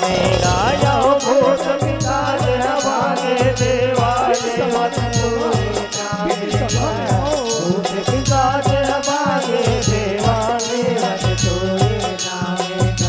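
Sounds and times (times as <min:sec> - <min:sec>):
wavering instrumental melody: 0:00.0 - 0:11.2
drums and jingling cymbals: 0:00.0 - 0:13.0.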